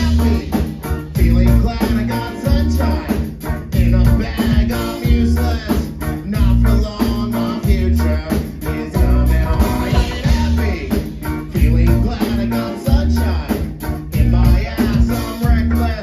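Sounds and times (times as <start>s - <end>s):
punk band playing: 0.0s - 16.0s.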